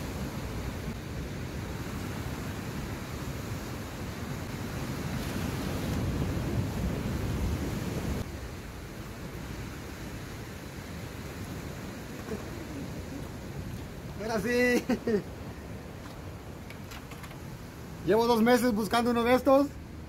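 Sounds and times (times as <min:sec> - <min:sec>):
wind rumbling on microphone: 0:00.0 - 0:18.2
surf breaking over rocks: 0:00.0 - 0:19.8.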